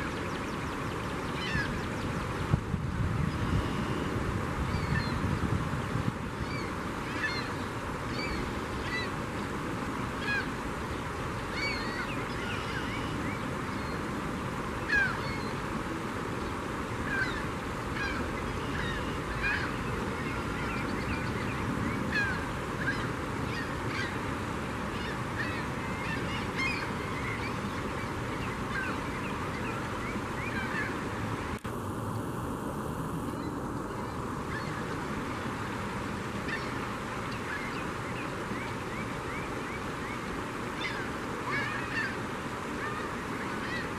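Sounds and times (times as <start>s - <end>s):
gulls calling: 0.0s - 2.6s, 3.2s - 5.4s, 6.2s - 31.7s, 33.2s - 43.9s.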